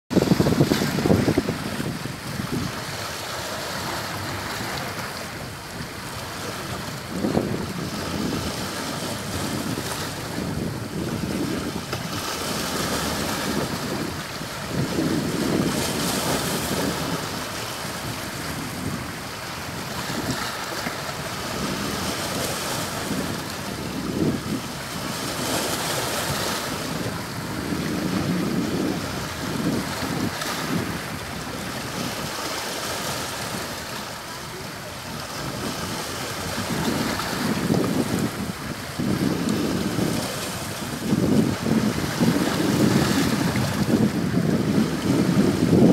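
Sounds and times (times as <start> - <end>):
sea waves breaking on shore: 0.1 - 45.9
wind buffeting microphone: 0.1 - 45.9.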